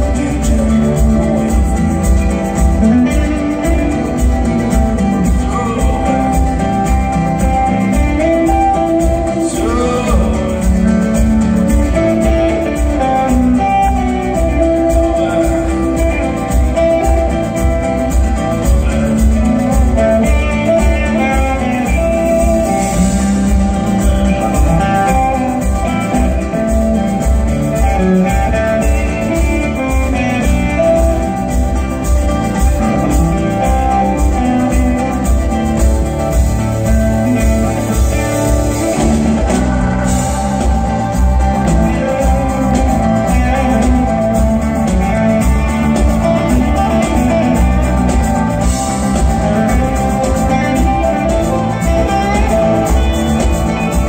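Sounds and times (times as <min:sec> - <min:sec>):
drum kit beat: 0:00.0 - 0:54.0
electric guitar: 0:00.0 - 0:54.0
live blues-rock band: 0:00.0 - 0:54.0.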